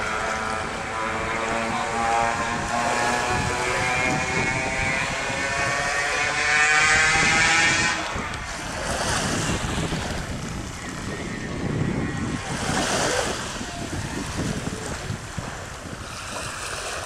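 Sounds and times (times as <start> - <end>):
distant engine drone: 0.0 - 17.0
sea waves washing: 0.0 - 17.0
wind buffeting microphone: 0.0 - 17.0.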